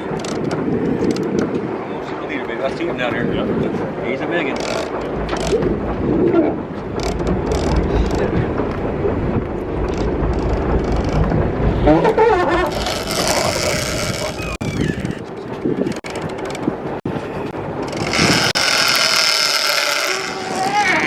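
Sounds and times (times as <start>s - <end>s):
water noise: 0.0s - 21.0s
wind: 0.0s - 21.0s.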